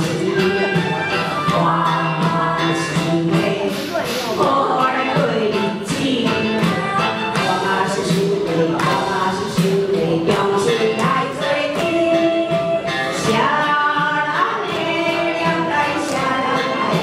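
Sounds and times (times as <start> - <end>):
recorded backing track: 0.0 - 17.0
woman singing karaoke: 0.0 - 17.0.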